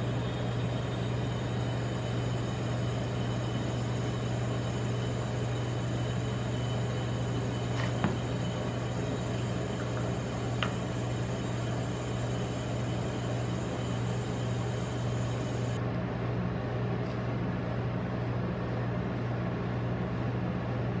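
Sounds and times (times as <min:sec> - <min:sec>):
refrigeration unit humming: 0:00.0 - 0:21.0.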